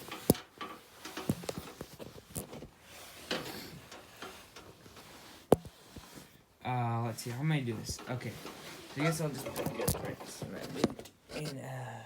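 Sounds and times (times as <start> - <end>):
sharp clicks and knocks: 0.0 - 6.2, 7.8 - 11.5
soft rustling: 0.0 - 11.7.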